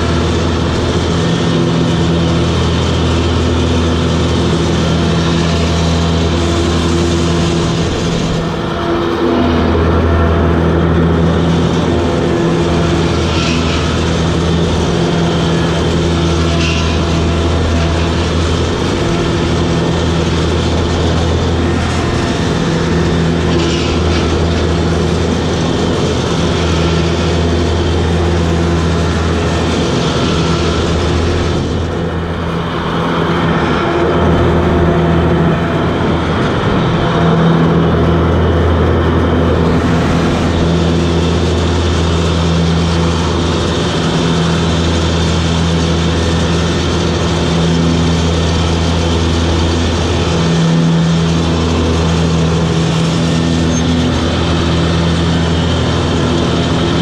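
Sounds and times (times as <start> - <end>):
mower diesel engine hum: 0.0 - 57.0.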